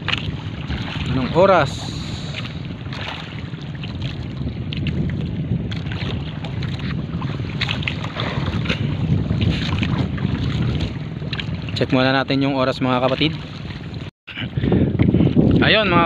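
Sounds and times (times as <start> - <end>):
short splashes and knocks: 0.0 - 12.0, 12.7 - 14.1
sea water lapping against boat: 0.0 - 16.0
wind buffeting microphone: 0.0 - 16.0.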